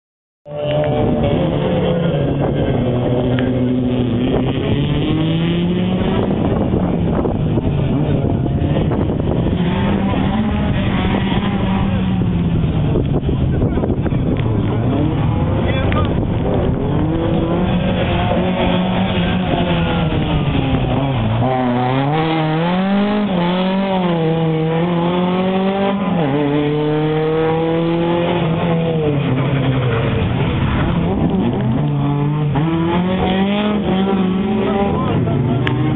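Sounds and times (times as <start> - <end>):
rally car engine revving hard: 0.5 - 35.9.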